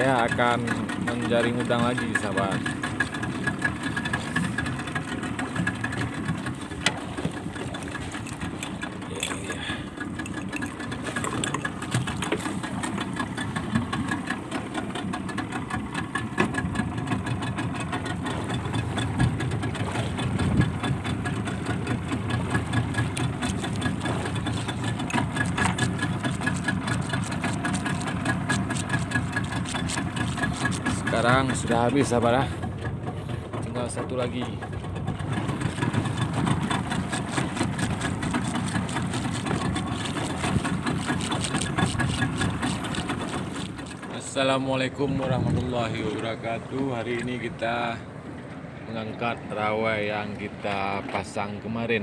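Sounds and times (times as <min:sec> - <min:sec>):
boat engine running: 0:00.0 - 0:52.0.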